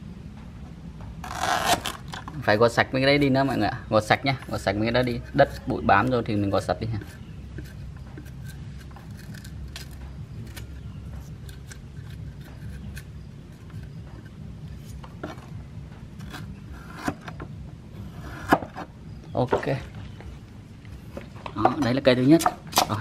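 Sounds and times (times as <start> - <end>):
steady low hum: 0.0 - 23.0
cleaver scraping bamboo shoot: 1.2 - 20.4, 21.0 - 23.0.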